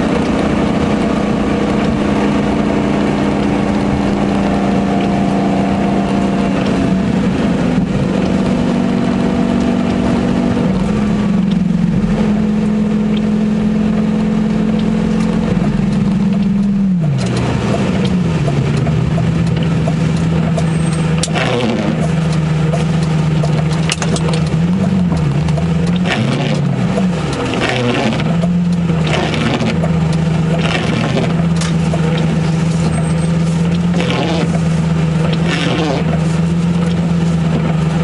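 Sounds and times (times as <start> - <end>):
car engine running at low revs: 0.0 - 38.0.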